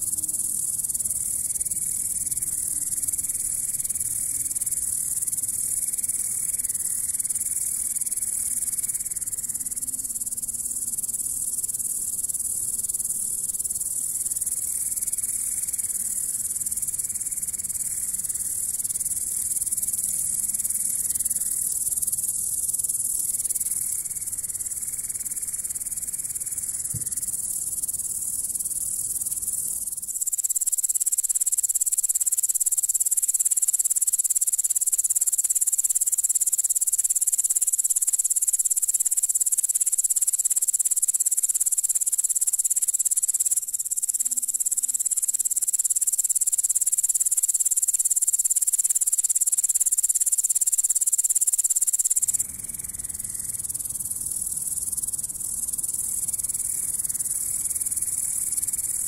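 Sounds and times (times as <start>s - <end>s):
bush-cricket buzzing song: 0.0s - 59.0s.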